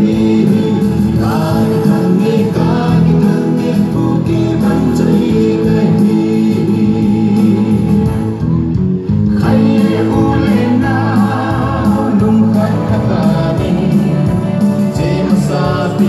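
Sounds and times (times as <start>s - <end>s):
music with singing over a beat: 0.0s - 16.0s.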